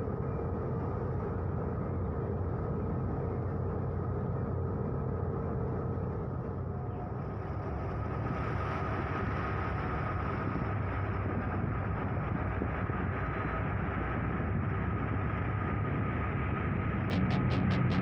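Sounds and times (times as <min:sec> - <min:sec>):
boat engine rumbling: 0:00.0 - 0:18.0
faint steady whine: 0:00.0 - 0:18.0.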